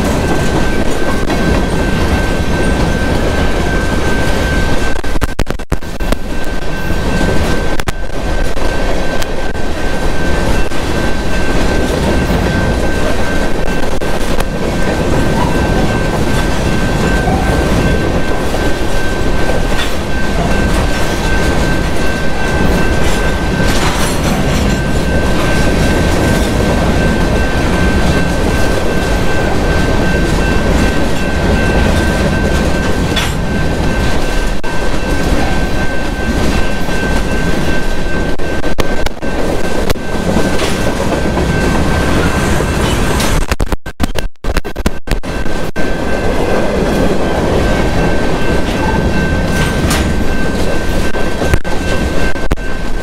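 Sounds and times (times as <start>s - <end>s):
wheels clacking over rail joints: 0.0s - 43.5s, 46.2s - 53.0s
freight train rumble: 0.0s - 53.0s.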